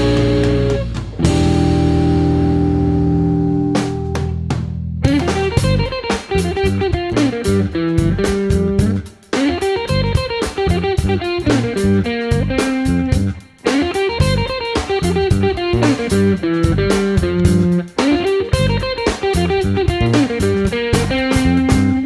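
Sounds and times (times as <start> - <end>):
guitar music: 0.0 - 22.0.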